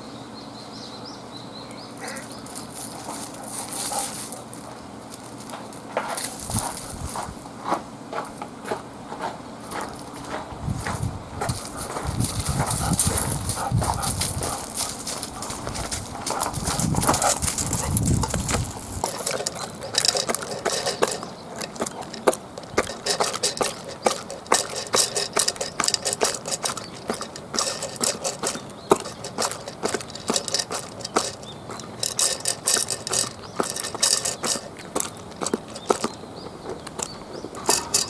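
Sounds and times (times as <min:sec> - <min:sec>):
dog eating crunching: 0:02.0 - 0:07.8, 0:09.6 - 0:38.0.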